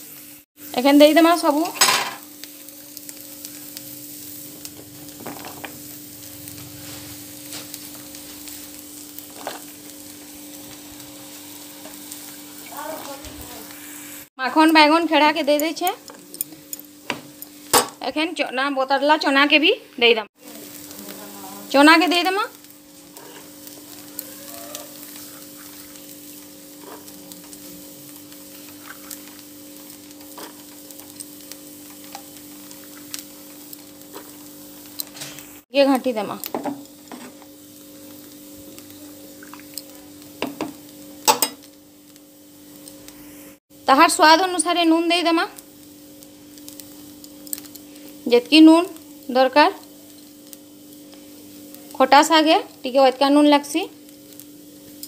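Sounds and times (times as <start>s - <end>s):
water boiling in a pot: 0.0s - 19.6s, 20.4s - 55.0s
gas burner hissing: 0.0s - 55.0s.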